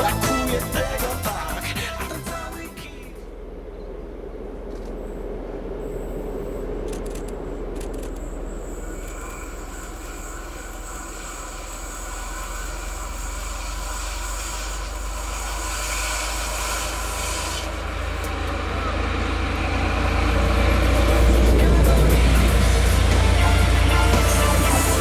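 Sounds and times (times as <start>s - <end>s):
diesel locomotive droning: 0.0s - 25.0s.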